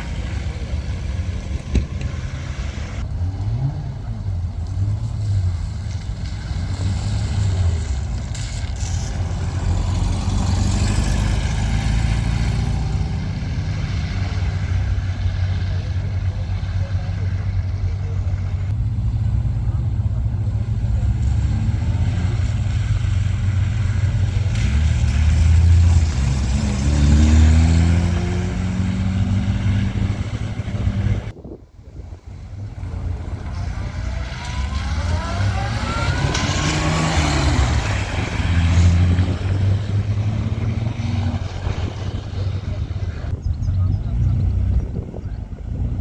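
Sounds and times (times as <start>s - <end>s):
cars accelerating away: 0.0s - 31.4s, 32.0s - 46.0s
car engines rumbling: 0.0s - 46.0s.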